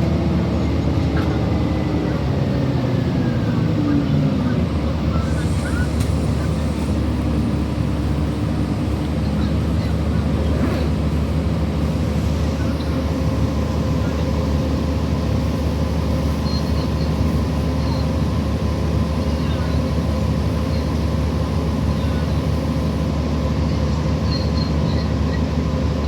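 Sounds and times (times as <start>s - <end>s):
bus engine humming: 0.0s - 26.0s.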